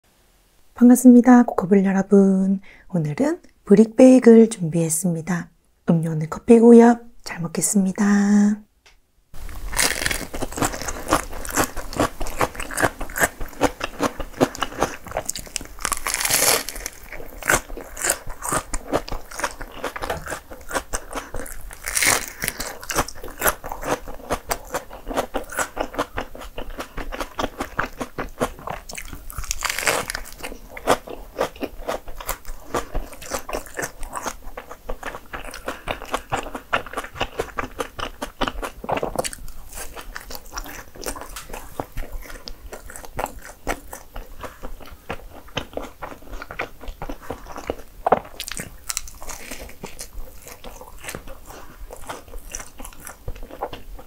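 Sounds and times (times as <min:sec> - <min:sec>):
crunching and chewing sandwich: 0:09.4 - 0:54.0.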